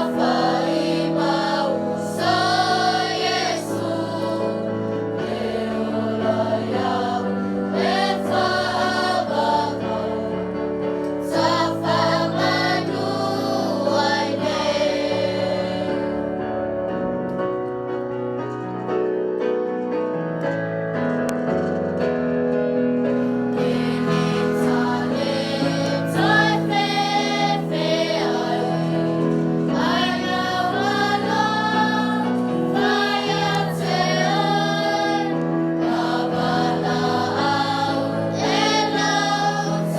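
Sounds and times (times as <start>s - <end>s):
choir singing a hymn: 0.0s - 17.2s, 23.1s - 39.9s.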